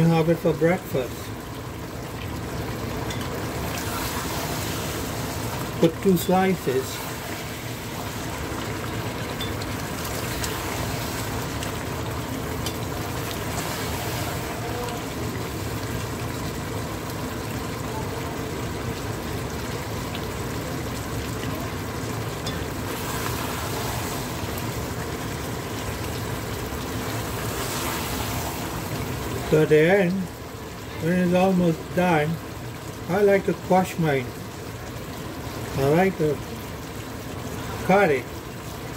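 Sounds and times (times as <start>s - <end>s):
food bubbling in a pot: 0.0s - 38.9s.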